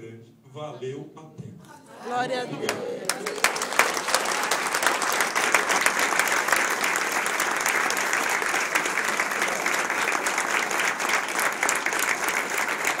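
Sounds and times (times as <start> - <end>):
crowd clapping: 2.1 - 13.0.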